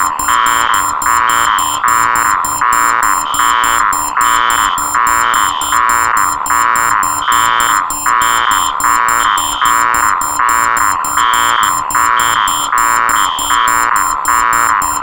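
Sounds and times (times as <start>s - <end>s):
higher alarm tone: 0.0s - 15.0s
loud pulsing alarm tones: 0.0s - 15.0s
rapid high-pitched beeps: 0.0s - 15.0s.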